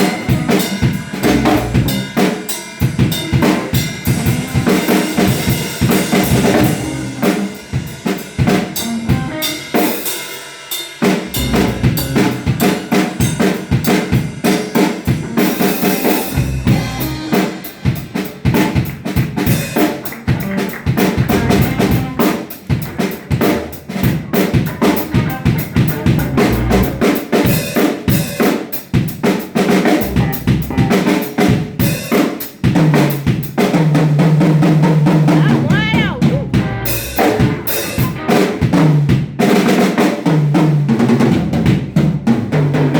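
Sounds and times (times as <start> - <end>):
band playing funk groove: 0.0 - 42.9
busy drum kit: 0.0 - 42.9.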